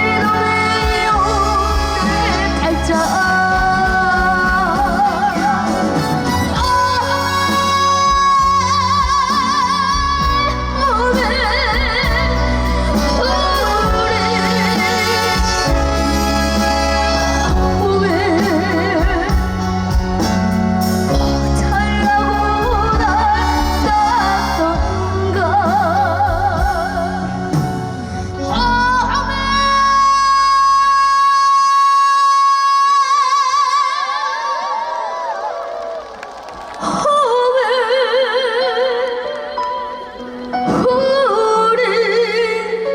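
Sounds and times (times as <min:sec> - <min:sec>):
amplified backing band: 0:00.0 - 0:42.9.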